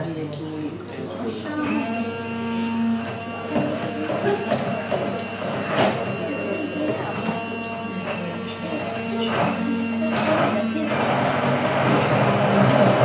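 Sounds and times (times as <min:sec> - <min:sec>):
stick blender motor hum: 0:01.6 - 0:13.0.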